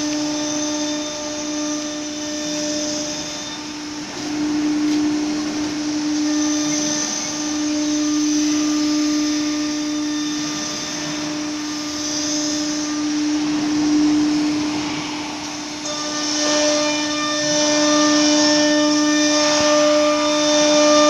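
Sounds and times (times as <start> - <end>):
higher steady tones: 0.0 - 21.0
wood router spindle humming: 0.0 - 21.0.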